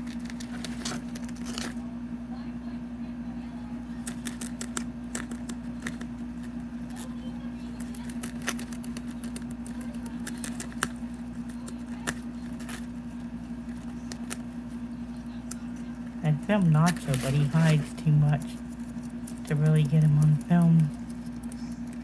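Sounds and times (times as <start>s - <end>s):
guinea pig chewing a leaf: 0.0s - 2.0s, 3.4s - 22.0s
steady low hum: 0.0s - 22.0s.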